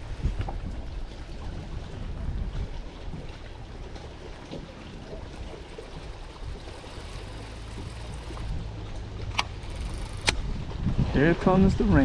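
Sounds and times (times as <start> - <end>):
wind and water noise: 0.0 - 12.0
wind rumble on microphone: 0.0 - 12.0.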